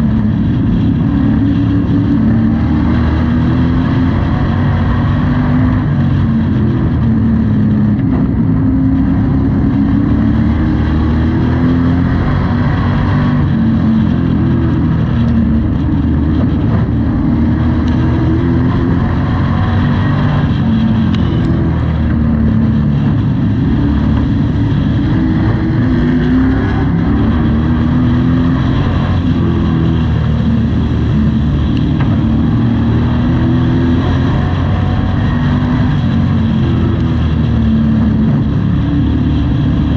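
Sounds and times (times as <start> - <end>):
race engine revving: 0.0 - 39.9.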